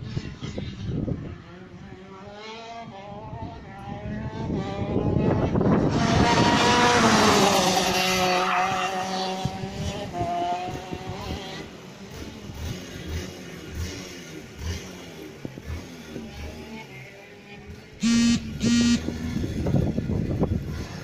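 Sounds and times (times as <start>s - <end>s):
kart engine passing by: 0.1s - 21.0s.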